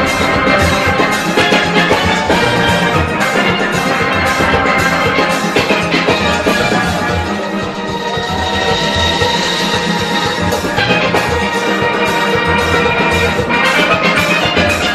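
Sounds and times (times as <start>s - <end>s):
congas: 0.0s - 14.9s
drum kit: 0.0s - 14.9s.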